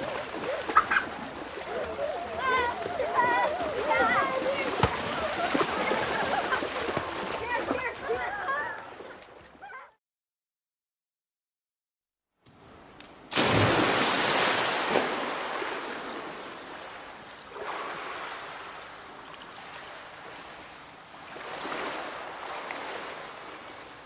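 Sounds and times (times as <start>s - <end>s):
ocean waves breaking on shore: 0.0s - 9.6s, 13.3s - 24.0s.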